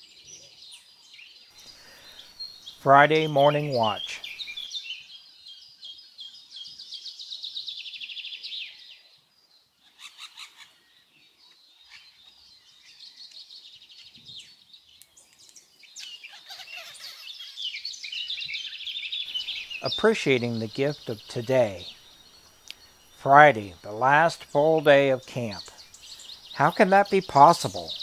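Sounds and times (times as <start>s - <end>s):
birds singing and chirping: 0.0s - 28.0s.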